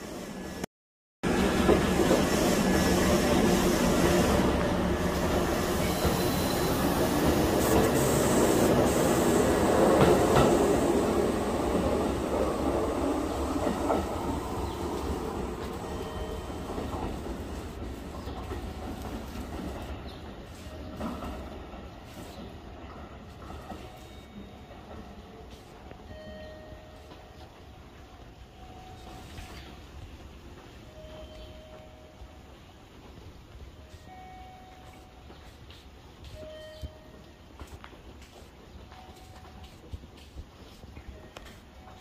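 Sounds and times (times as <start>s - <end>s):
train wheels rumbling on rails: 1.2s - 42.0s.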